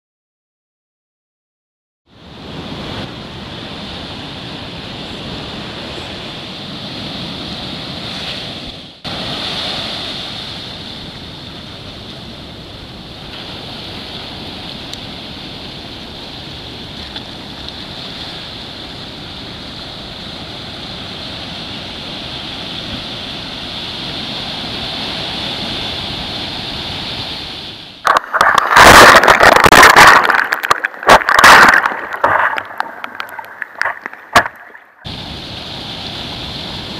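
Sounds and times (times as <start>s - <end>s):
surf: 2.2s - 36.9s
waves washing over kayak: 2.2s - 36.9s.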